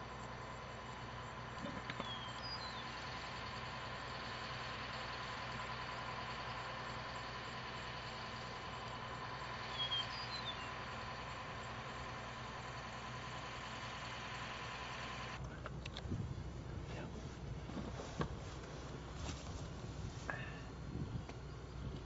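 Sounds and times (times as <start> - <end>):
truck engine idling with whine: 0.0 - 22.0.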